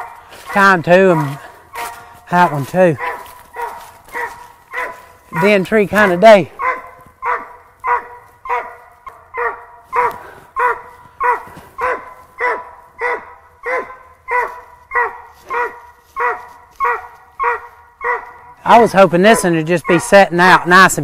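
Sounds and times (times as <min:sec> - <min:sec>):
dog barking: 0:00.0 - 0:21.0.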